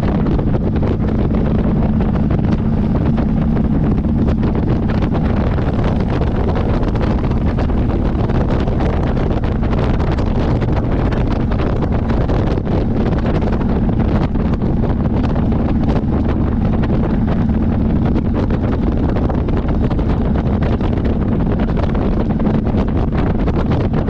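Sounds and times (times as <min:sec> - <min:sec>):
motorcycle engine drone: 0:00.0 - 0:24.0
wind buffeting microphone: 0:00.0 - 0:24.0.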